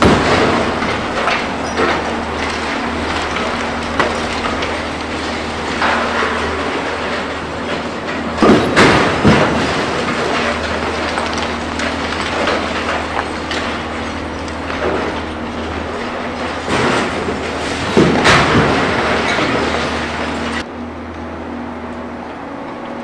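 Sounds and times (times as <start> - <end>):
concrete breaking up: 0.0 - 20.6
debris clattering down: 0.0 - 20.6
loud crashes: 0.0 - 20.6
steady engine hum: 0.0 - 23.0.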